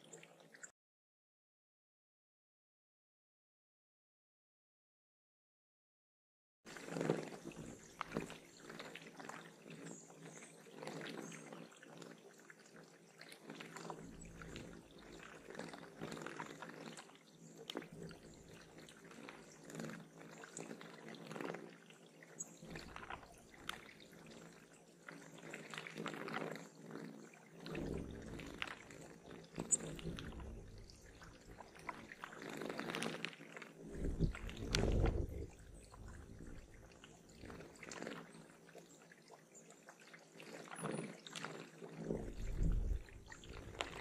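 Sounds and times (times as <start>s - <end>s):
water trickling and splashing: 6.7s - 44.0s.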